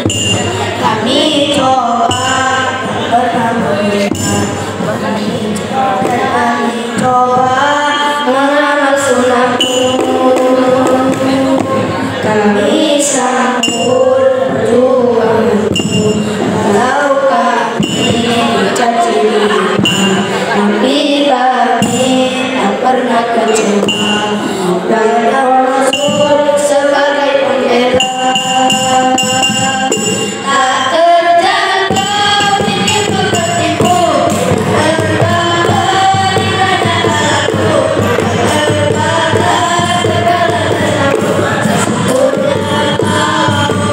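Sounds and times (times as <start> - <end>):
boys singing together: 0.0 - 43.9.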